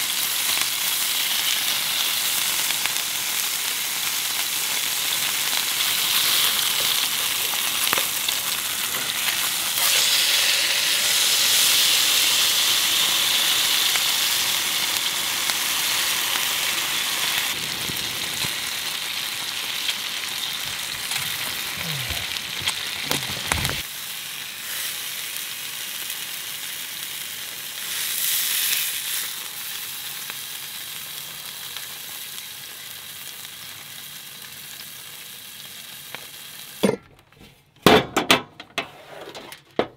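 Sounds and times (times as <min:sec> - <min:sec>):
fish sizzling in a frying pan: 0:00.0 - 0:36.8.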